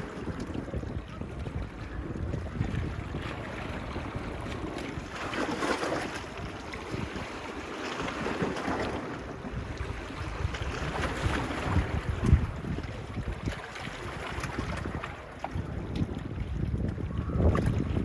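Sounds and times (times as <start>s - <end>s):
small waves washing onto beach: 0.0s - 18.0s
wind buffeting microphone: 0.0s - 18.0s.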